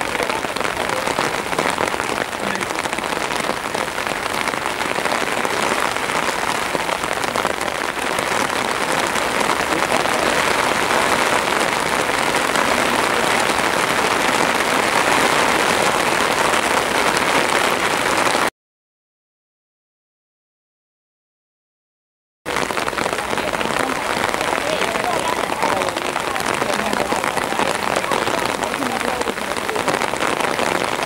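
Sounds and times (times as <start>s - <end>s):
steady rain hiss: 0.0s - 18.5s, 22.5s - 31.0s.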